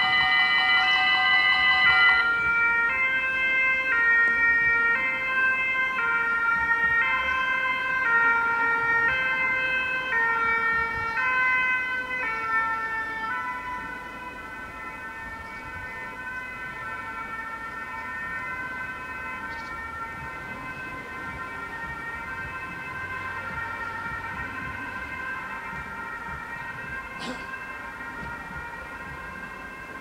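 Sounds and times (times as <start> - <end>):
level crossing warning bells: 0.0 - 30.0.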